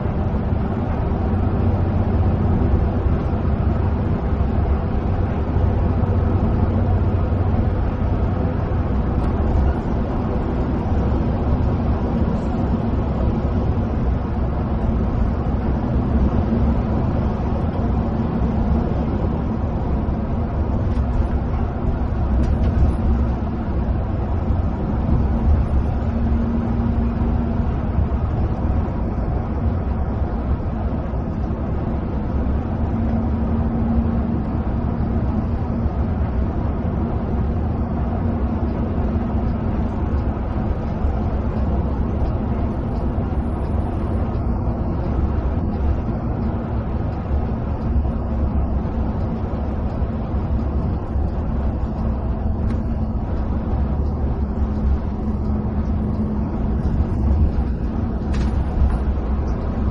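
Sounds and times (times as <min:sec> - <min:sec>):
bus engine droning: 0:00.0 - 0:59.9
tyres roaring on road: 0:00.0 - 0:59.9.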